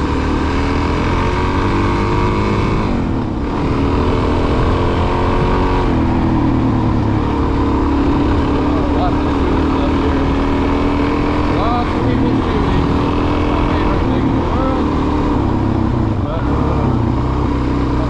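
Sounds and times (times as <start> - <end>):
low rush of wind: 0.0 - 18.0
motorcycle engine running: 0.0 - 18.0.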